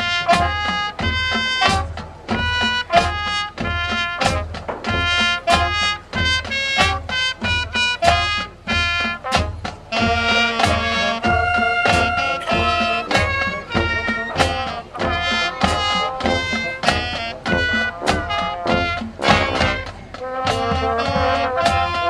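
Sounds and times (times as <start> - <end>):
brass instruments playing chords: 0.0 - 22.0.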